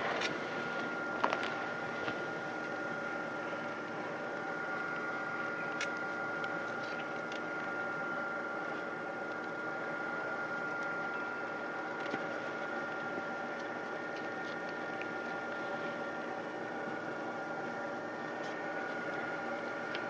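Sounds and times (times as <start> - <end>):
small fan motor humming: 0.0 - 20.0.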